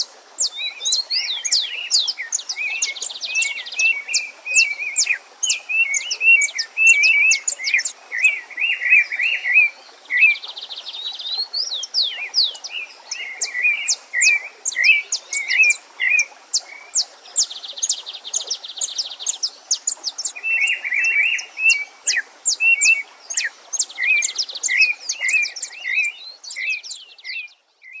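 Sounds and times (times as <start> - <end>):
stream rushing: 0.0 - 27.0
songbirds singing: 0.0 - 28.0.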